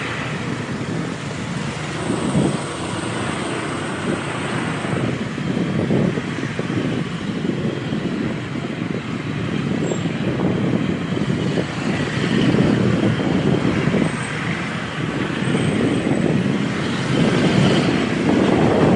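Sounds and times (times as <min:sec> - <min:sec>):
road and traffic noise: 0:00.0 - 0:18.9.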